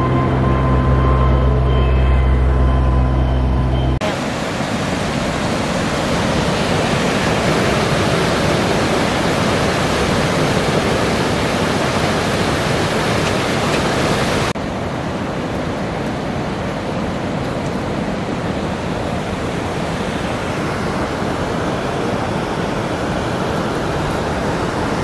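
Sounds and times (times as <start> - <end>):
river water rushing over rocks: 4.0 - 25.0.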